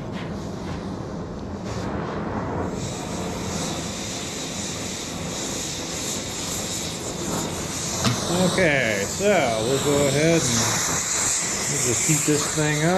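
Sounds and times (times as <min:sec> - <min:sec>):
cutting torch rushing: 0:00.0 - 0:12.9
loud high oxygen hiss: 0:00.0 - 0:12.9.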